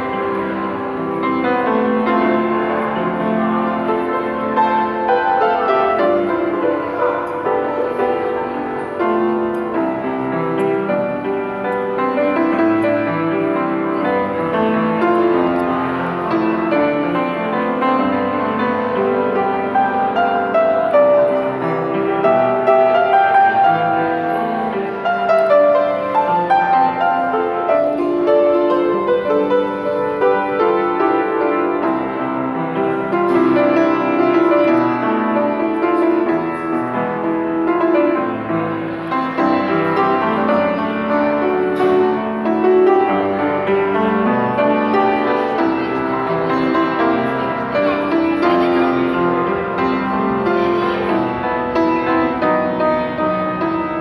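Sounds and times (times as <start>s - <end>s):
piano piece: 0.0s - 54.0s.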